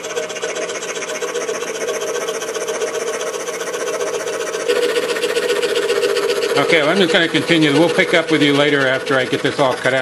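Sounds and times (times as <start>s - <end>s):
scroll saw cutting wood: 0.0s - 10.0s.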